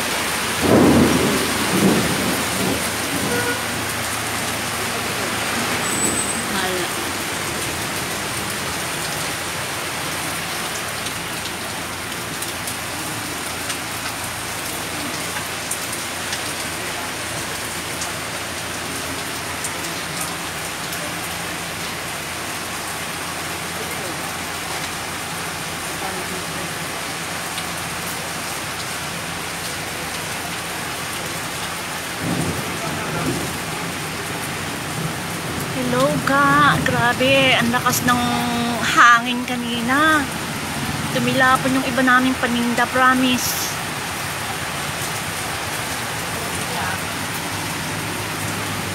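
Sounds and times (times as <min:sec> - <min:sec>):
heavy rain on concrete: 0:00.0 - 0:48.9.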